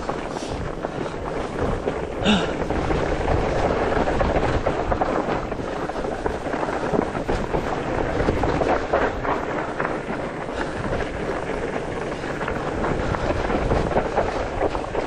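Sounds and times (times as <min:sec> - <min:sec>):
bike tyres and frame rattling: 0:00.0 - 0:15.0
wind buffeting microphone: 0:00.0 - 0:15.0.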